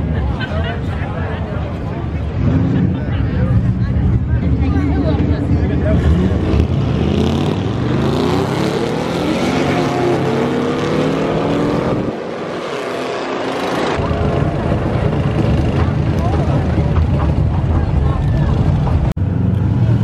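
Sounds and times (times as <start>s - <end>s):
car engines revving and accelerating: 0.0s - 20.0s.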